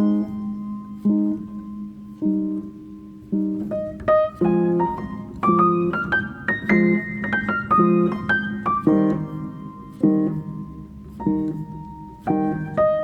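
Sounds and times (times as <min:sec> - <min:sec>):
piano playing chords and melody: 0:00.0 - 0:13.0.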